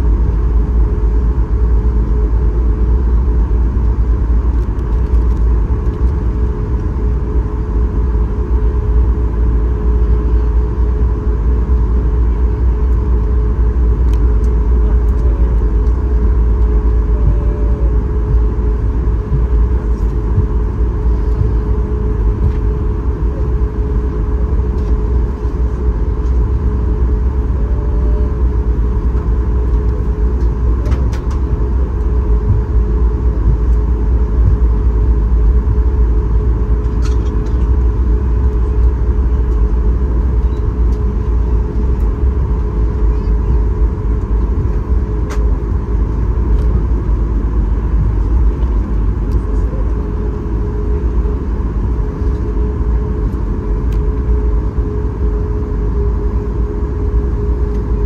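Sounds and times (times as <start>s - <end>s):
jet engines idling hum: 0.0s - 58.0s.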